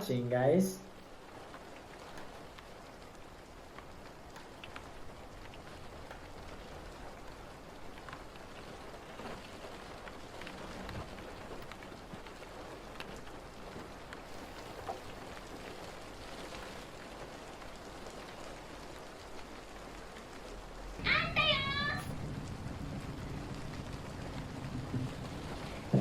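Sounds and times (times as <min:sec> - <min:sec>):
raindrop taps: 0:00.0 - 0:26.0
steady rain hiss: 0:00.0 - 0:26.0.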